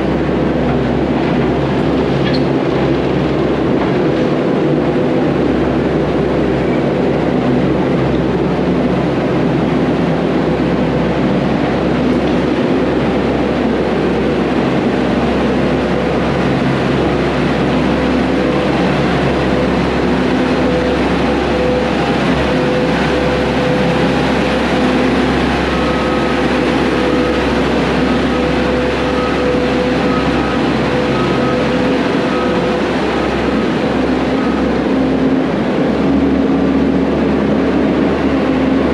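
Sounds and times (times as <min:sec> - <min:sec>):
heavy diesel equipment rumbling: 0:00.0 - 0:38.9.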